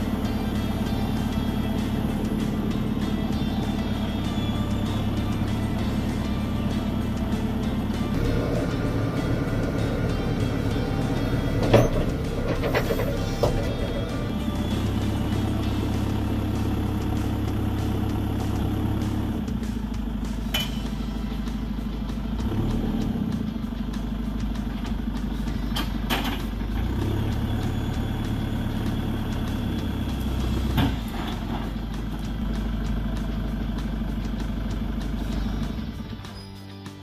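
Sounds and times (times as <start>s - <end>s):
diesel engine running: 0.0s - 36.6s.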